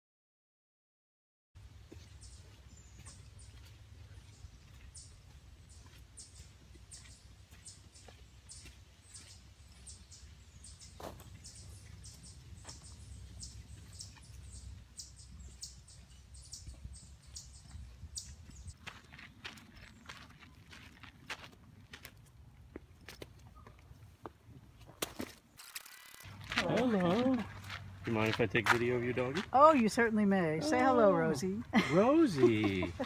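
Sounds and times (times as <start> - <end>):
footsteps crunching on a trail: 1.6 - 30.1.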